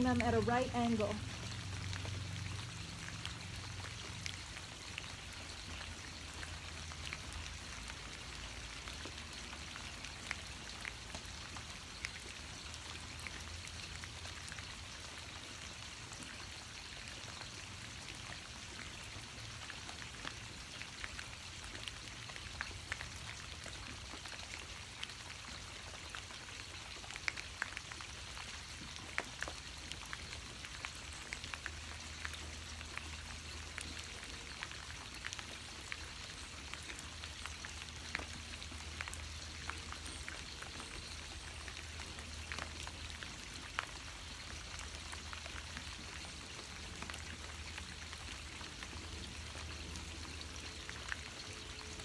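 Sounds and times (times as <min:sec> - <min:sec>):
raindrops ticking close by: 0:00.0 - 0:52.0
steady rain hiss: 0:00.0 - 0:52.0.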